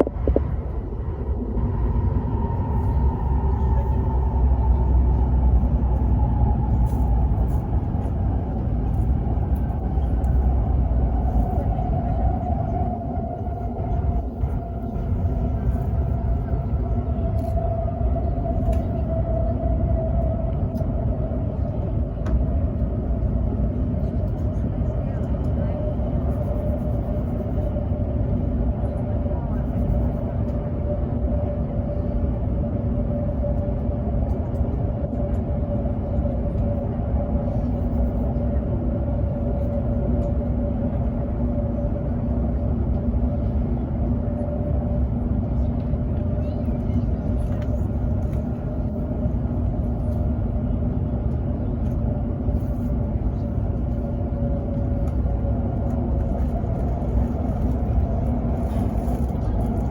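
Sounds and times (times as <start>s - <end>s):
constant whine: 0.0s - 59.9s
train low rumble: 0.0s - 59.9s.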